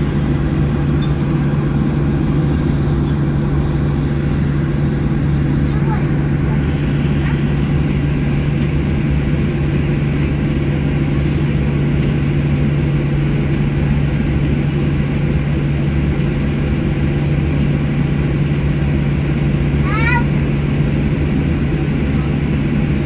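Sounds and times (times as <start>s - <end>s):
airplane cabin drone: 0.0s - 23.0s.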